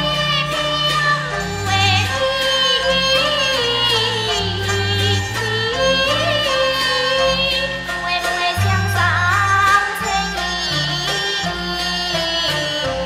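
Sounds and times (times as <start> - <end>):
opera singing with accompaniment: 0.0 - 13.0.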